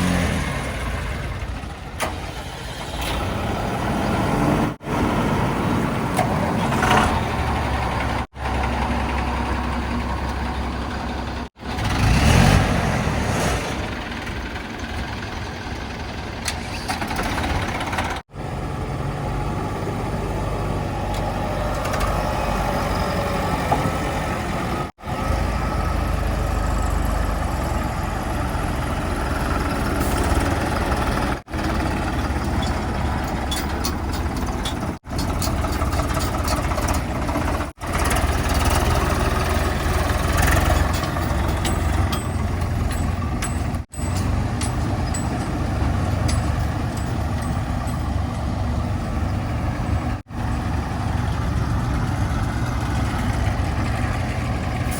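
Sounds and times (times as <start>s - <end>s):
heavy diesel engines running: 0.0s - 54.9s.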